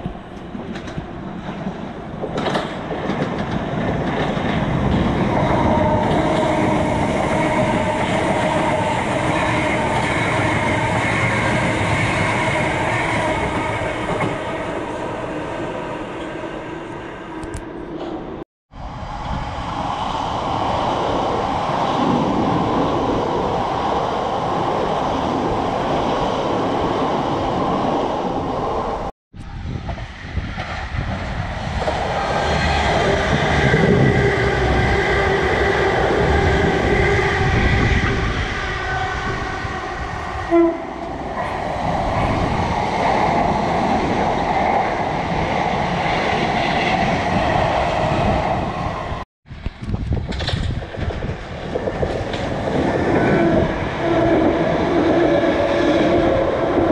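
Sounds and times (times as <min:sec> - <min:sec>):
electric trains passing at speed: 0:00.0 - 0:56.9
train traction whine: 0:00.0 - 0:56.9.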